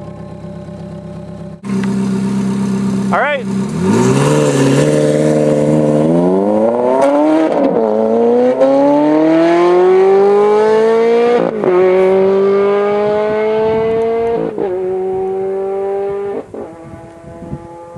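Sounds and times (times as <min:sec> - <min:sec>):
car engine accelerating through gears: 0:00.0 - 0:17.9.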